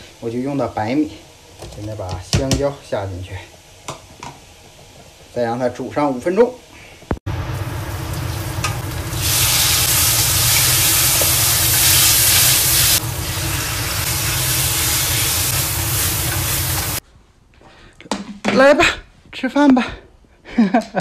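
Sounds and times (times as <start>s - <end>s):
vegetables sizzling in a wok: 0.0s - 17.0s.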